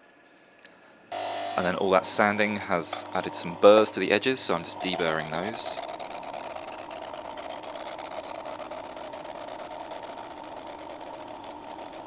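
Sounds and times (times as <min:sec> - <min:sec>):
bench grinder grinding metal: 0:01.1 - 0:12.0.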